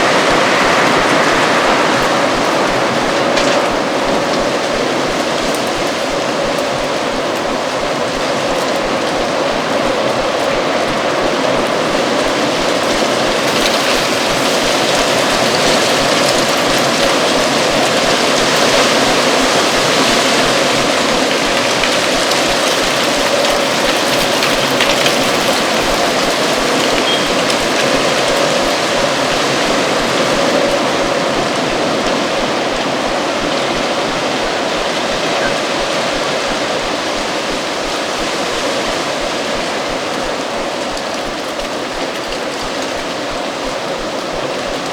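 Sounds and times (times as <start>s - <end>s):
dry leaves rustling: 0.0s - 36.7s.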